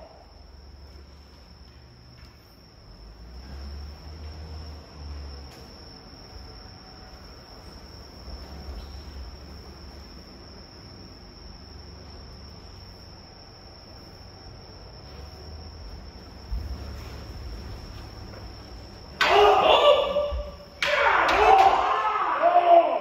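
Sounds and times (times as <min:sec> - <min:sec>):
crickets trilling: 0:00.0 - 0:23.0
low rumble of hall: 0:00.0 - 0:23.0.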